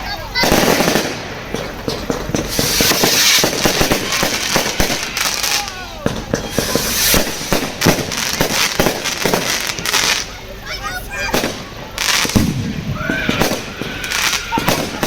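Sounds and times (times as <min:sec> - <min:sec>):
fireworks crackling and banging: 0:00.0 - 0:15.0
firework whistle: 0:00.4 - 0:10.3, 0:11.2 - 0:15.0.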